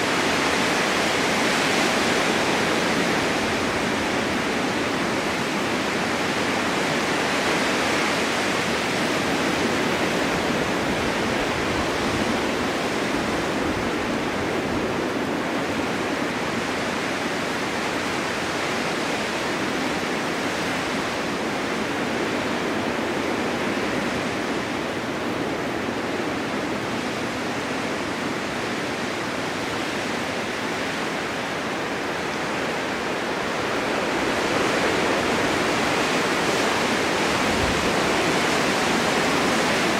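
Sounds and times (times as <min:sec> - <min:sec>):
blizzard wind rushing: 0:00.0 - 0:39.9.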